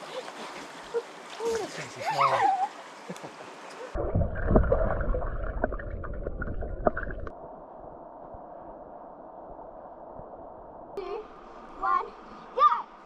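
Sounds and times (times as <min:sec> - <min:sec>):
underwater creek gurgling: 0:00.0 - 0:12.4
muffled wash of water: 0:00.0 - 0:13.0.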